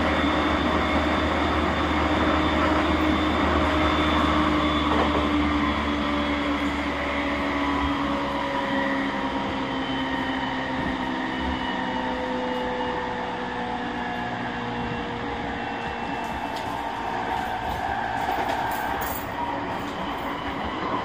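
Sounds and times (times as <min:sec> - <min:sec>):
electric train motor whine: 0:00.0 - 0:21.0
wheel and rail rumble: 0:00.0 - 0:21.0.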